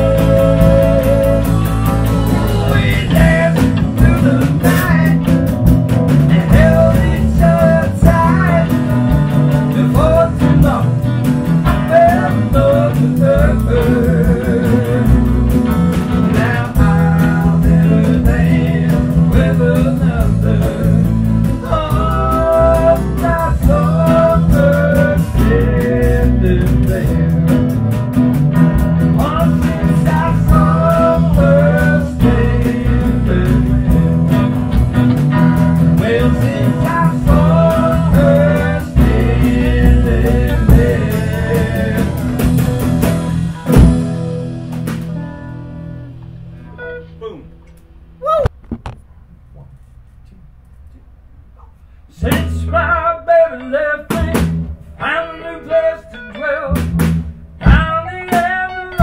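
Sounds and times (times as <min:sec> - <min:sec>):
live band playing: 0:00.0 - 0:47.8, 0:54.1 - 0:55.0, 0:56.6 - 0:59.0.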